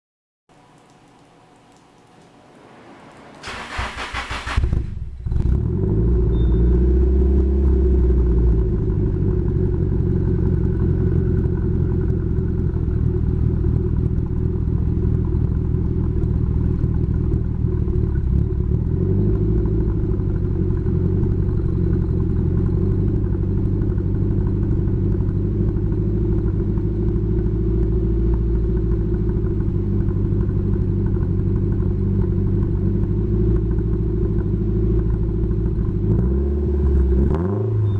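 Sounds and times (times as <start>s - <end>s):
car engine idling: 3.4s - 37.4s.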